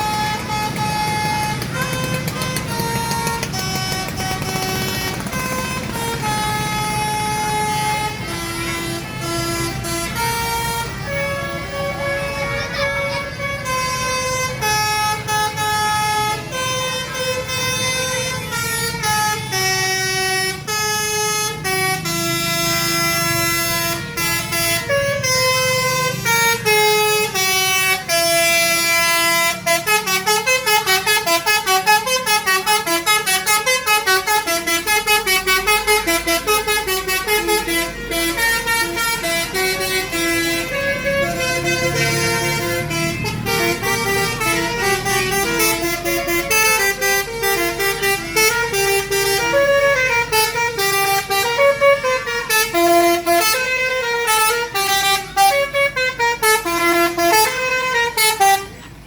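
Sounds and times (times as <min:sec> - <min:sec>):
multi-tone air horn tune: 0:00.0 - 0:59.0.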